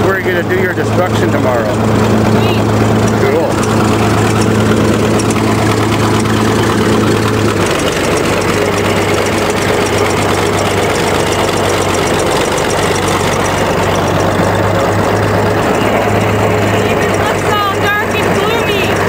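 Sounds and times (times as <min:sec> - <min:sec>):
bulldozer engine running: 0:00.0 - 0:19.0.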